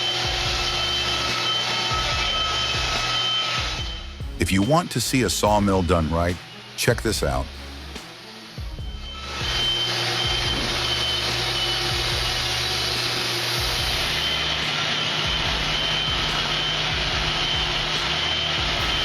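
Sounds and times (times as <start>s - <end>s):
band sawmill running: 0.0s - 19.0s
thin high whine: 0.0s - 19.0s.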